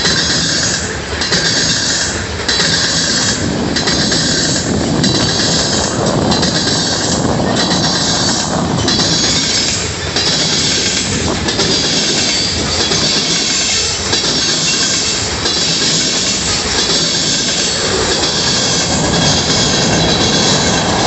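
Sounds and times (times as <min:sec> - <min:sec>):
clack at rail joints: 0:00.0 - 0:21.0
train wheels rumbling on rails: 0:00.0 - 0:21.0
wheel squeal: 0:00.0 - 0:21.0.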